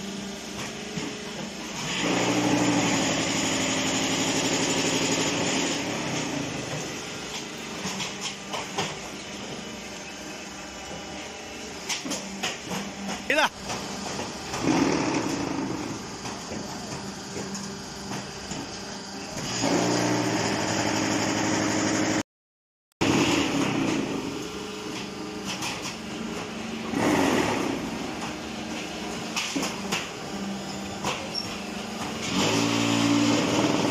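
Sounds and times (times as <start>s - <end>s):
block-making machine hum and clatter: 0.0s - 22.2s, 23.0s - 33.9s.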